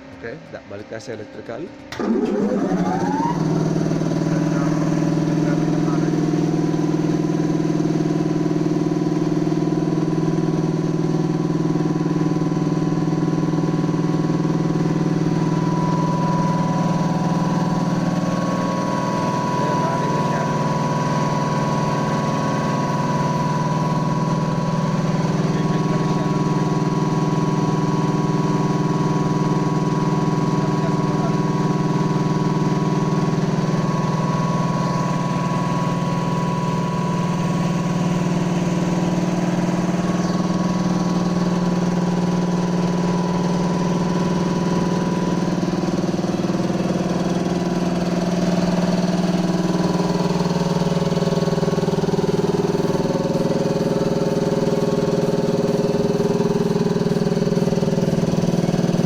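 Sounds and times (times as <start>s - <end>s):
heavy machinery drone: 0.0s - 59.0s.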